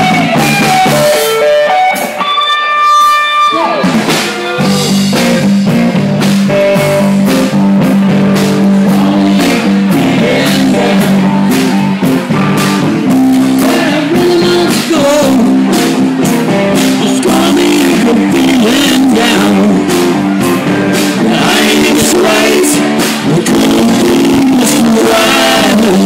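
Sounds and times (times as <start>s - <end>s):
drum kit: 0.0s - 26.0s
electric guitar: 0.0s - 26.0s.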